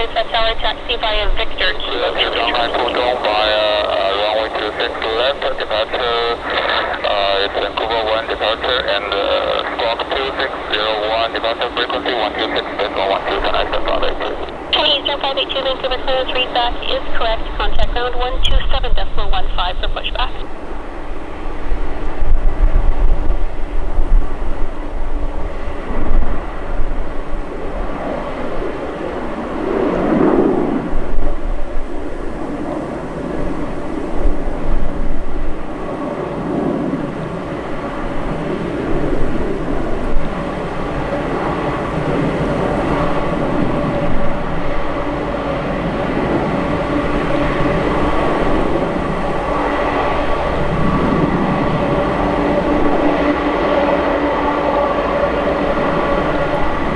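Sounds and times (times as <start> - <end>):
jet engine whine: 0.0 - 56.9
jet engines rumbling: 0.0 - 56.9.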